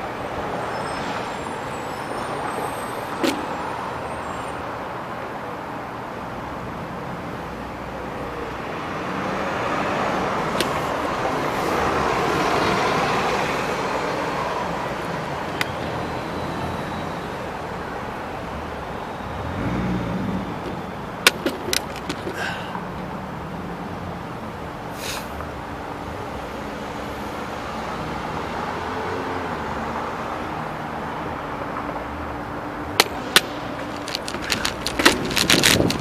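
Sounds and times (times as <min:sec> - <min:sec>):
cars passing: 0:00.0 - 0:36.0.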